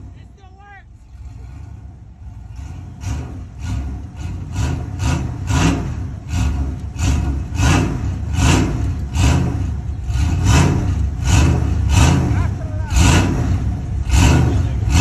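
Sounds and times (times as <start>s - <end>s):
truck engine loping: 0.0s - 15.0s.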